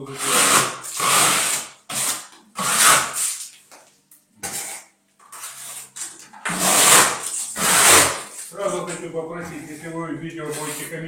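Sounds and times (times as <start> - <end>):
trowel scraping plaster: 0.0 - 3.6, 4.4 - 11.0.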